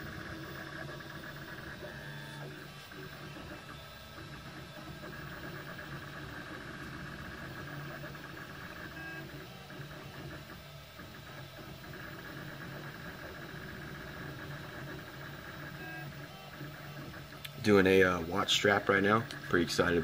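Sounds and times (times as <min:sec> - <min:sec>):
printer stepper motors whirring: 0:00.0 - 0:20.0.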